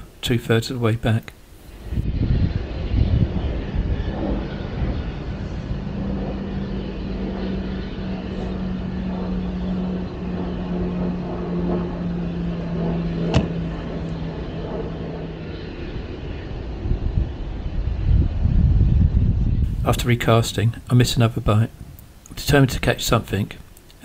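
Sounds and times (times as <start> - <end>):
distant engine drone: 0.0 - 24.0
low rumble: 1.6 - 22.2.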